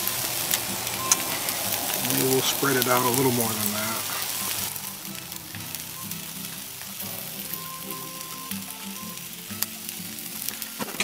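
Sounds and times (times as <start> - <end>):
background music with held notes: 0.0 - 11.0
food sizzling on a grill: 0.0 - 11.0.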